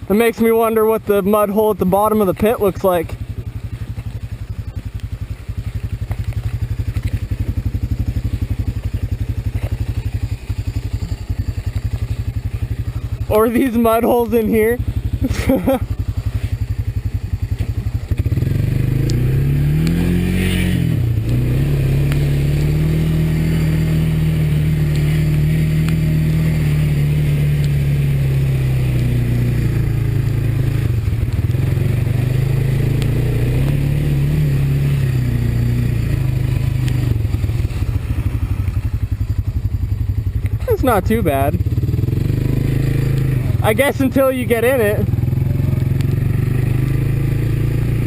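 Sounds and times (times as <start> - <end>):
quad engine revving: 7.0 - 39.2, 40.4 - 48.0.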